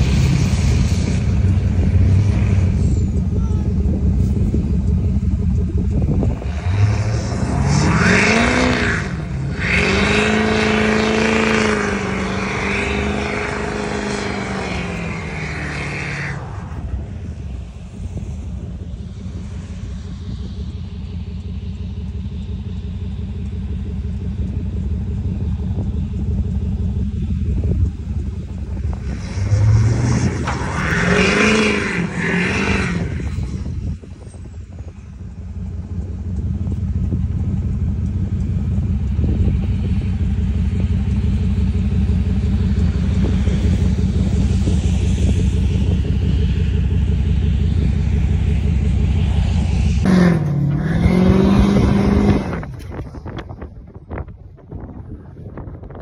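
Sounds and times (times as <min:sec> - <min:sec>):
diesel pickup engine rumbling: 0:00.0 - 0:56.0.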